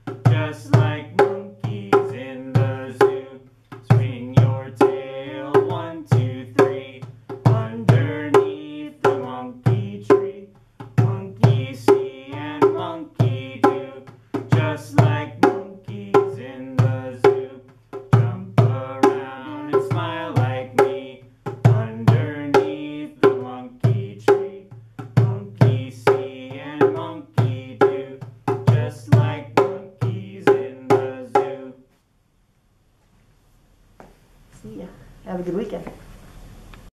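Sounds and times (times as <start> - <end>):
djembe played by hand: 0.0 - 31.4
person singing: 0.3 - 17.6, 18.2 - 31.8.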